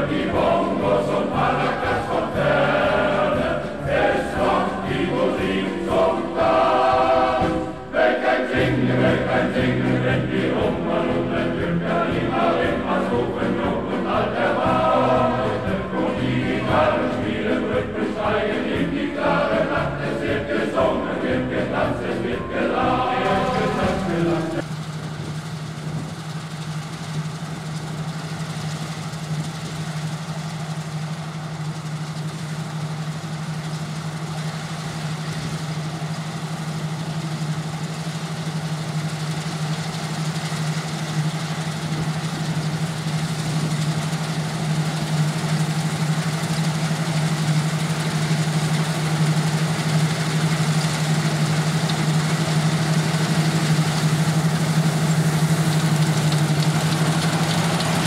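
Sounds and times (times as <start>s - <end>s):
combine harvester droning: 0.0s - 58.0s.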